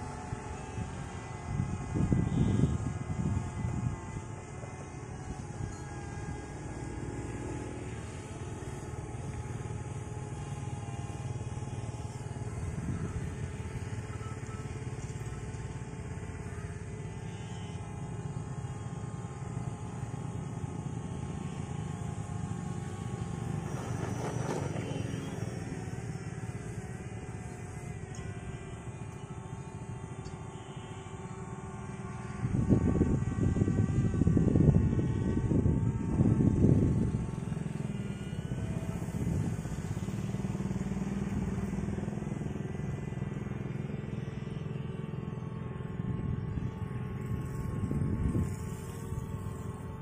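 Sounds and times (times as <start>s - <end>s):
model airplane motor and propeller: 0.0s - 50.0s.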